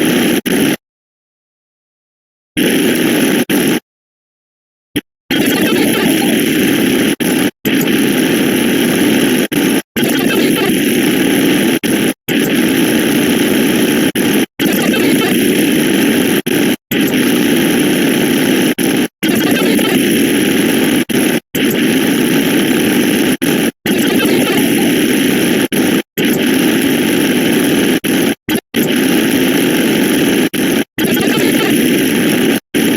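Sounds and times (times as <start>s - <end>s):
cacophony of layered sound effects: 5.4s - 32.9s.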